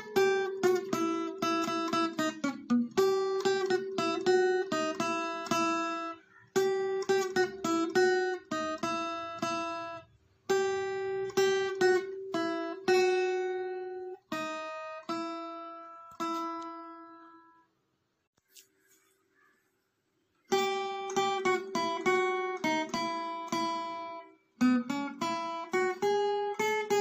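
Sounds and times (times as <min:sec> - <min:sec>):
acoustic guitar music: 0:00.0 - 0:17.8, 0:20.5 - 0:27.0.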